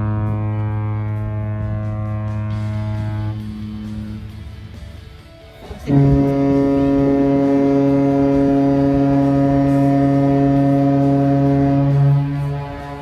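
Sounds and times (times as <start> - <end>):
ship horn blast: 0.0 - 4.8, 5.6 - 13.0.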